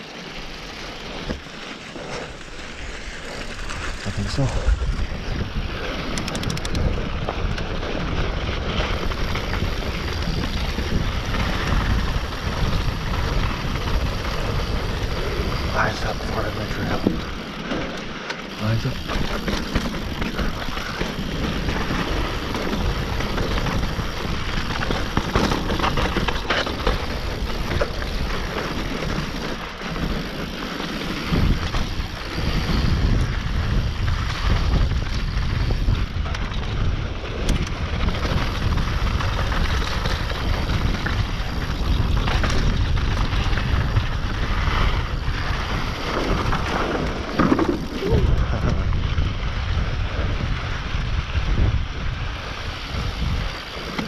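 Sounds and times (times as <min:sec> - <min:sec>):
tyres running over dirt: 0:00.0 - 0:54.0
bike clattering over bumps: 0:00.1 - 0:54.0
wind buffeting microphone: 0:02.0 - 0:17.7, 0:18.5 - 0:54.0.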